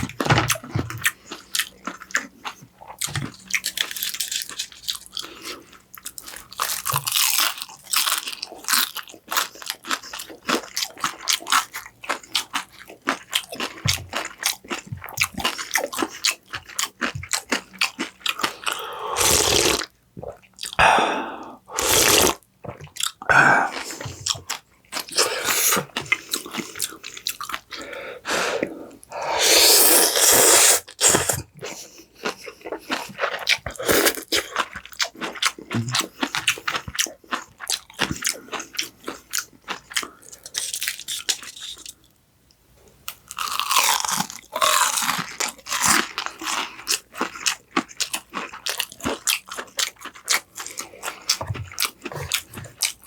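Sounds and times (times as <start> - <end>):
person chewing crisp food: 0.0 - 42.1, 43.1 - 53.0.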